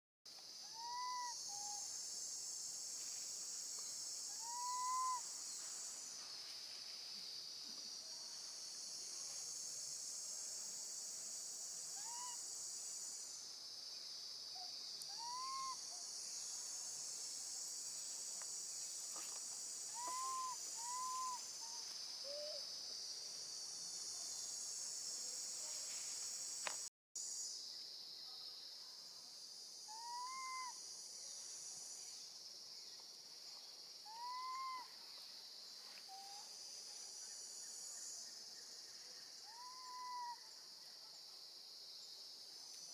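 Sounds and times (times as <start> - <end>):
cicadas and crickets chorus: 0.3 - 42.9.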